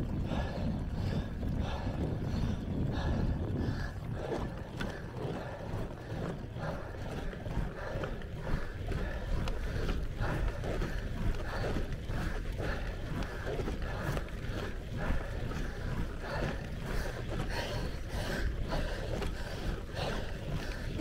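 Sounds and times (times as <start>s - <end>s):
bike tyres rolling on asphalt: 0.0s - 21.0s
wind buffeting microphone: 0.0s - 21.0s.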